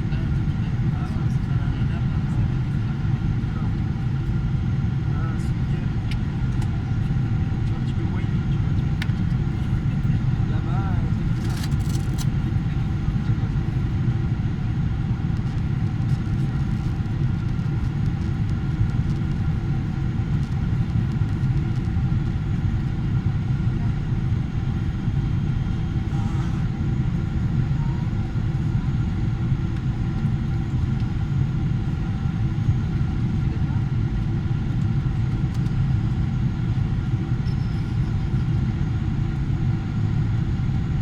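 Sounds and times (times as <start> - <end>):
airplane cabin engine rumble: 0.0 - 41.0
faint steady whine tones: 0.0 - 41.0.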